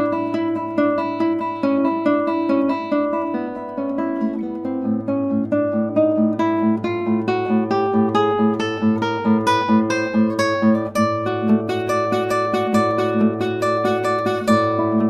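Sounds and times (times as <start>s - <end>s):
fingerstyle nylon-string guitar: 0.0s - 15.0s.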